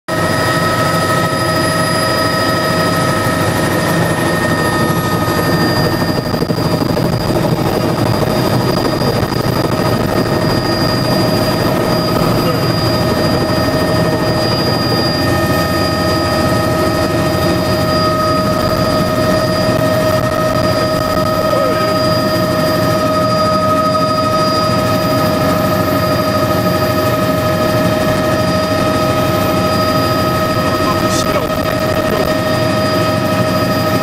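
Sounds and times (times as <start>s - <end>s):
helicopter engine and rotor: 0.1s - 34.0s
high whine tones: 0.2s - 34.0s.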